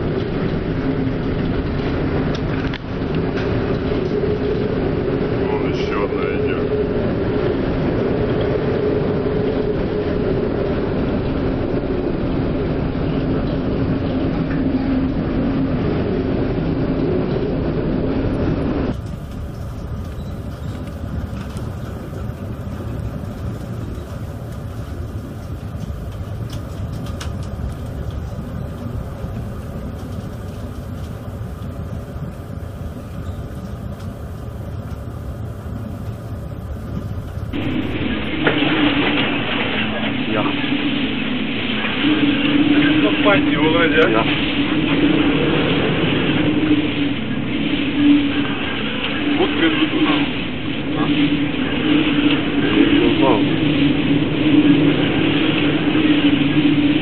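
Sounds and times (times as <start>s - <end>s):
ship engine rumble and hum: 0.0s - 57.0s
wind: 0.0s - 57.0s.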